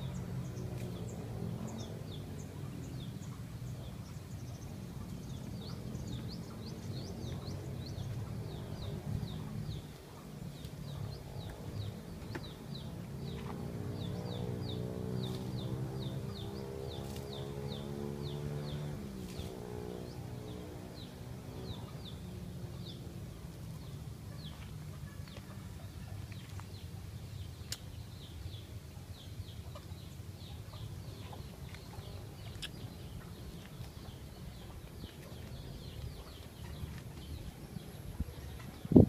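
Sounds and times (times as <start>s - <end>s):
small birds chirping: 0.0s - 39.0s
steady low rumble: 0.0s - 39.0s.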